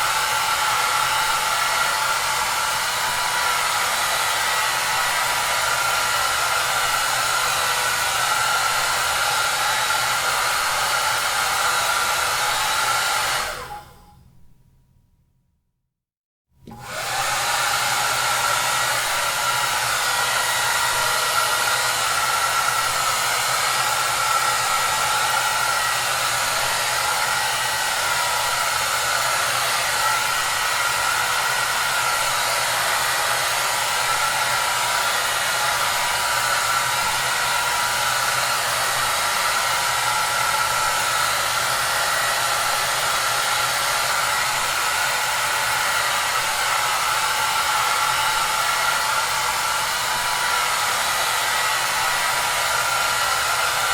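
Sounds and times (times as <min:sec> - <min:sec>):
hair dryer running: 0:00.0 - 0:14.1, 0:16.6 - 0:53.9.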